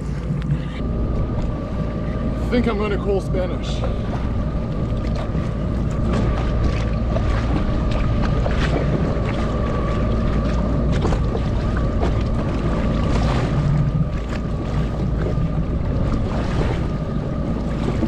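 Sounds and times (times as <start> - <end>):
jet ski engine idling: 0.0 - 18.0
water slapping against hull: 0.0 - 18.0
wind on microphone: 0.0 - 18.0.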